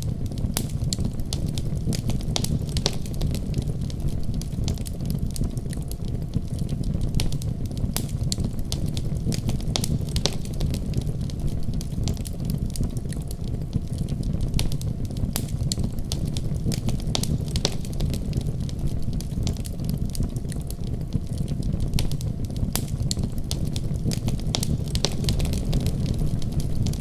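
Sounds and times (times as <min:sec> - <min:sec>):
fire crackling and popping: 0:00.0 - 0:27.0
fire roaring: 0:00.0 - 0:27.0.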